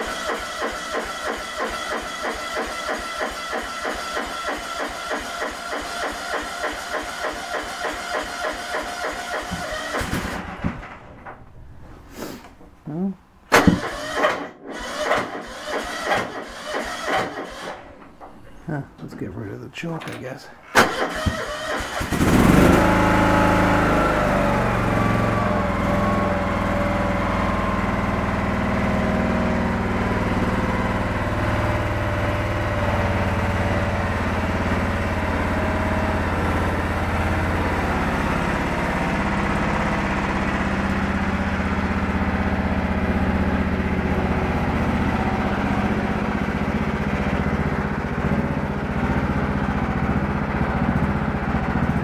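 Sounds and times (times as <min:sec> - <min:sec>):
lawn tractor engine starting and running: 0:00.0 - 0:12.8, 0:13.4 - 0:52.0.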